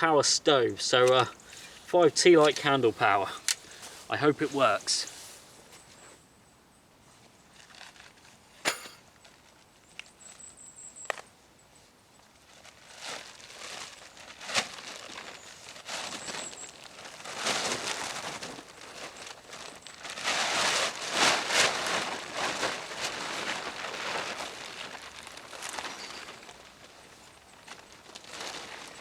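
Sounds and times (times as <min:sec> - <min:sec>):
camping gear rustling: 0:00.1 - 0:06.3, 0:07.1 - 0:11.3, 0:12.2 - 0:29.0.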